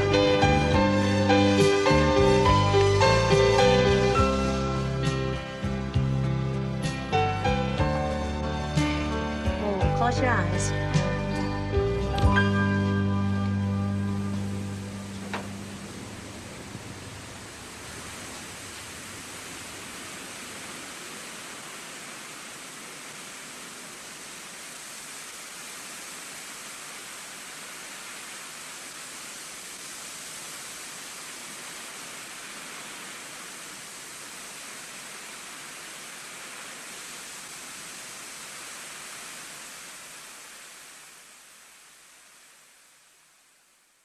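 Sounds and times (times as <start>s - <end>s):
steady rushing hiss: 0.0s - 10.2s, 10.9s - 44.0s.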